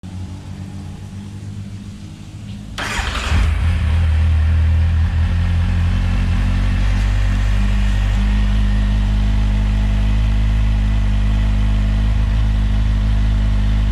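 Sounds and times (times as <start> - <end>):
low steady hum: 0.0 - 13.9
motorcycle engine starting and idling: 2.6 - 13.9.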